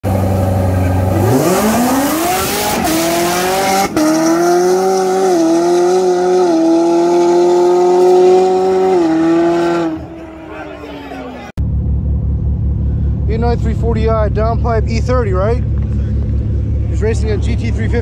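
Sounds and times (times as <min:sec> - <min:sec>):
car engines revving at full throttle: 0:00.0 - 0:18.0.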